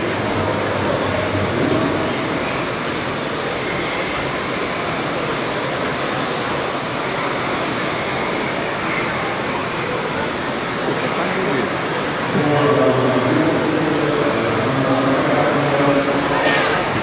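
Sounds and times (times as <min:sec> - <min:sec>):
din of exhibition hall: 0:00.0 - 0:17.0
model tractors running: 0:00.0 - 0:17.0.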